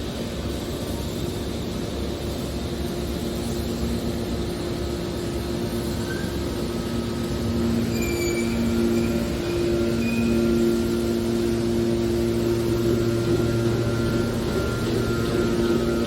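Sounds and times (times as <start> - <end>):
hydraulic baler mechanical drone: 0.0 - 16.0.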